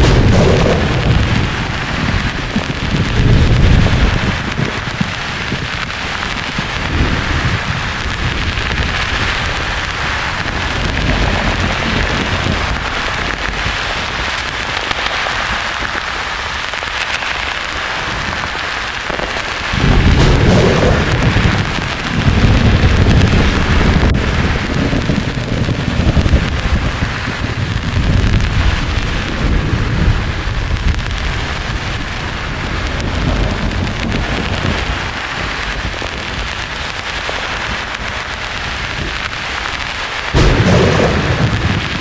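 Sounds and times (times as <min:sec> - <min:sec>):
rolling thunder: 0:00.0 - 0:14.8, 0:19.1 - 0:42.0
rain hiss: 0:00.0 - 0:42.0.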